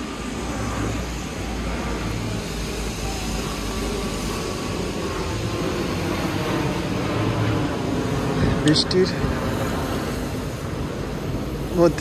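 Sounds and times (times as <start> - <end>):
plane passing overhead: 0.0 - 12.0
traffic on wet road: 0.0 - 12.0.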